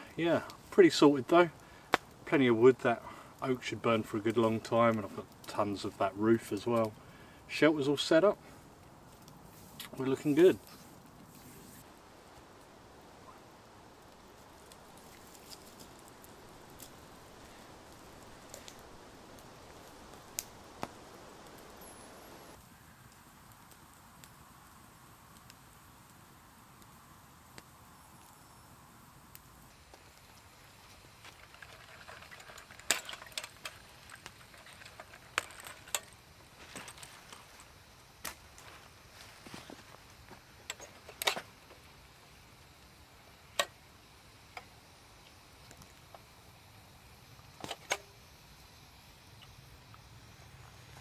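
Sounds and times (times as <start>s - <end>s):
campfire crackling and popping: 0.0s - 51.0s
faint steady fire hiss: 0.0s - 51.0s.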